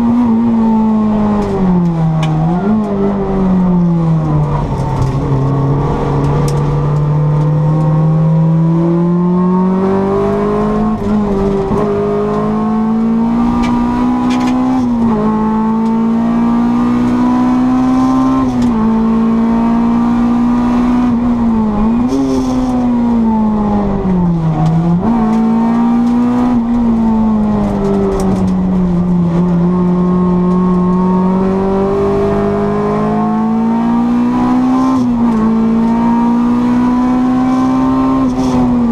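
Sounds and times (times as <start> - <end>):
car engine racing: 0.0 - 38.9.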